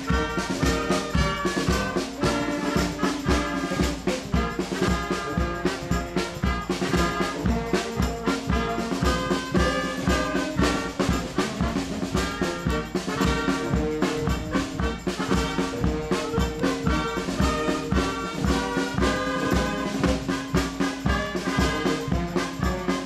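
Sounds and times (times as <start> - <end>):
wind band with brass playing: 0.0 - 23.0.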